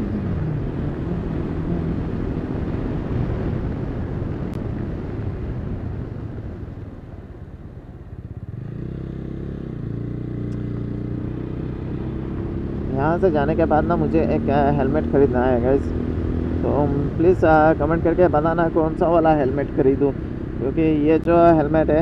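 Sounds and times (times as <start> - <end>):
motorcycle engine drone: 0.0 - 22.0.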